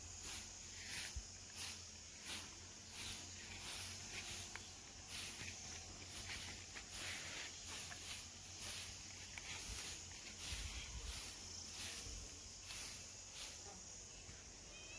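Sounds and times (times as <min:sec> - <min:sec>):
grass cutting swishes: 0:00.0 - 0:13.9.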